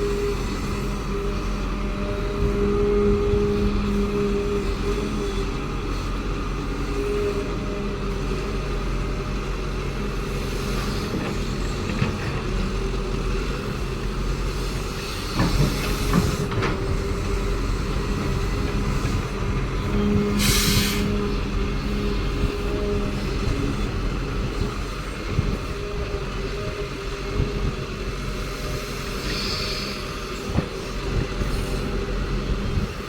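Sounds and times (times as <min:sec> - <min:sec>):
diesel engine running: 0:00.0 - 0:33.0
hydraulic whine: 0:00.0 - 0:33.0.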